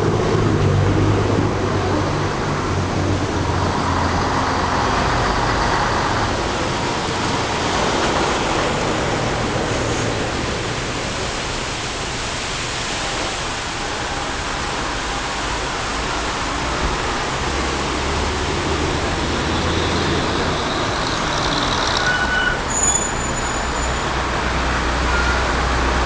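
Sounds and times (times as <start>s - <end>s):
bus engine passing: 0.0s - 22.9s.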